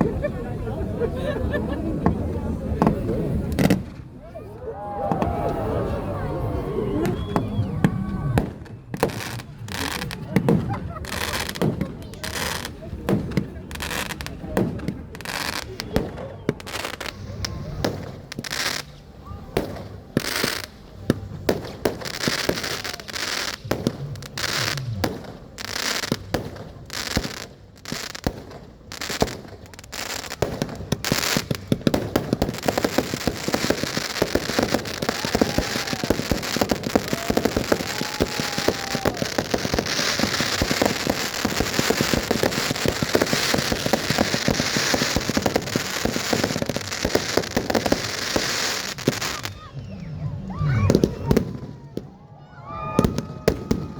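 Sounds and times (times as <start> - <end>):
firecrackers and fireworks banging: 0.0 - 53.9.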